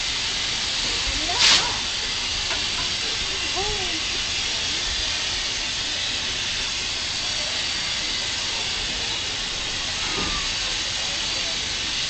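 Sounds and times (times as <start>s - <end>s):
faint voices: 0.0s - 12.0s
steam locomotive hissing: 0.0s - 12.0s.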